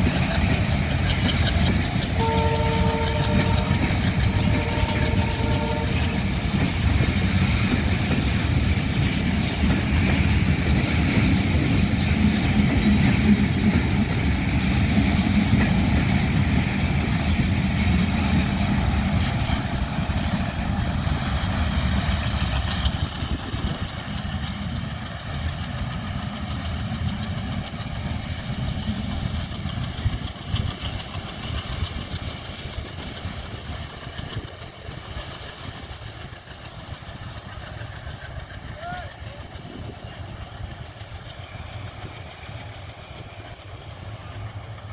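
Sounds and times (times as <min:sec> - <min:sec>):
train coaches rolling on rails: 0:00.0 - 0:44.9.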